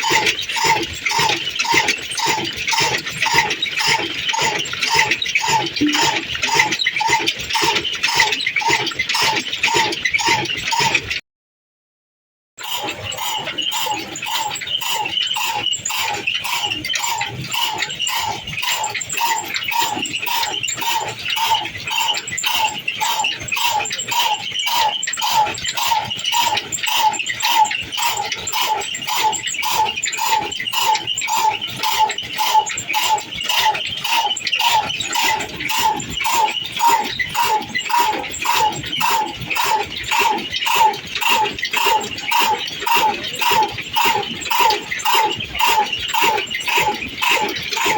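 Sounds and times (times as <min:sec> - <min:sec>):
old diesel engine knocking: 0:00.0 - 0:11.1, 0:12.7 - 0:47.9.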